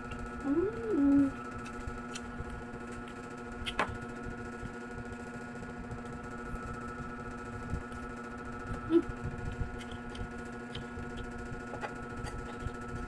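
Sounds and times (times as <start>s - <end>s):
machine hum with pitched tone: 0.0s - 13.0s.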